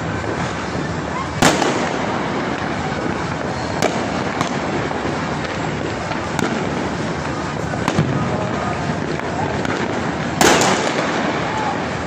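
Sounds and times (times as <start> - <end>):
firecracker bangs: 0.0 - 12.0
fireworks crackling: 0.0 - 12.0.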